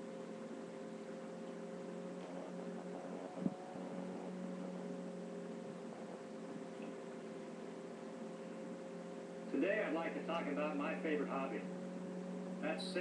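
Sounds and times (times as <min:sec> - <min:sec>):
room hum and hiss: 0:00.0 - 0:13.0.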